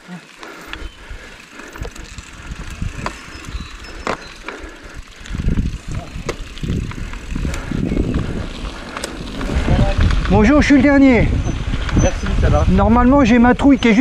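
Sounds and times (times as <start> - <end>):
bike frame rattling and clicking: 0.0 - 14.0
bike tyres rumbling on trail: 0.0 - 14.0.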